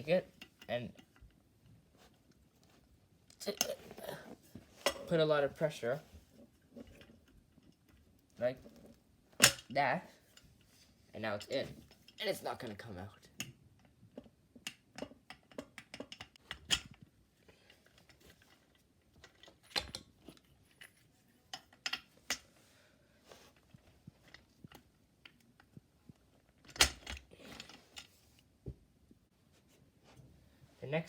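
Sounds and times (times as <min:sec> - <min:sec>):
chair parts clicking and rattling: 0:00.0 - 0:22.6, 0:23.3 - 0:28.5.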